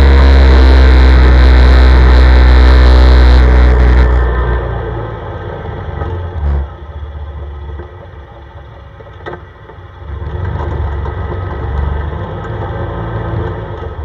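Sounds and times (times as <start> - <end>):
atv engine rumbling: 0.0 - 14.0.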